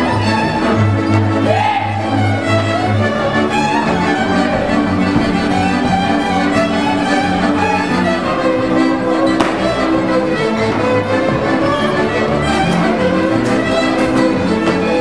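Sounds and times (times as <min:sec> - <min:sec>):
chordal accompaniment: 0:00.0 - 0:15.0
double bass: 0:00.0 - 0:15.0
fiddles bowing a melody: 0:00.0 - 0:15.0.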